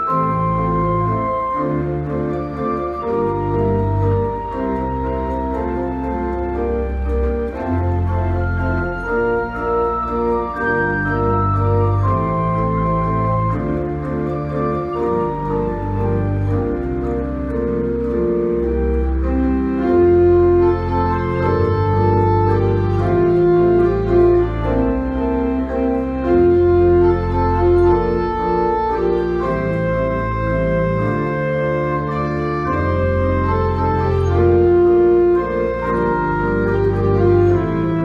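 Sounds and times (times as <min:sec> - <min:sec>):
church organ chords: 0:00.0 - 0:38.0
deep pedal bass notes: 0:00.0 - 0:38.0.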